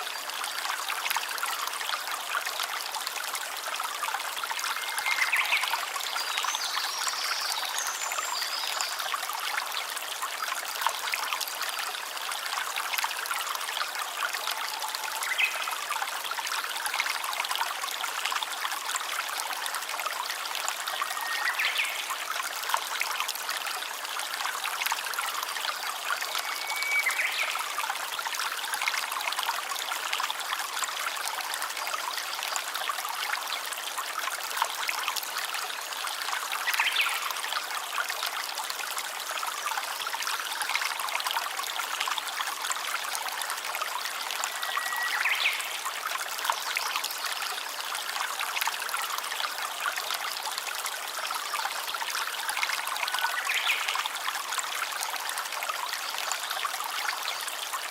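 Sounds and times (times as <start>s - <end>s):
stream trickling: 0.0s - 57.9s.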